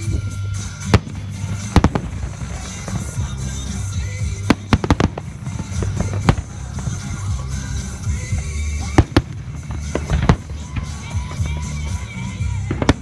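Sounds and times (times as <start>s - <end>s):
music: 0.0s - 13.0s
firework shells bursting: 0.6s - 13.0s.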